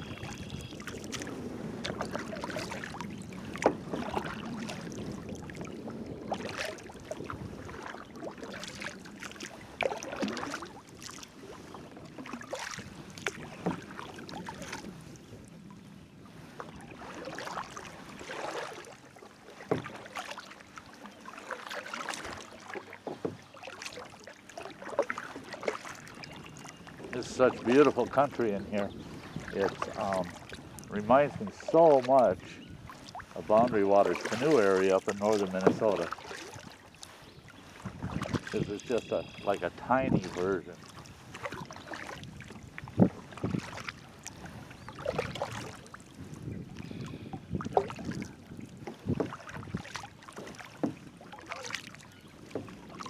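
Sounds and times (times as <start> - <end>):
wind rumbling on microphone: 0.0 - 18.7, 26.0 - 51.4
kayak paddle splashing in water: 0.0 - 53.0.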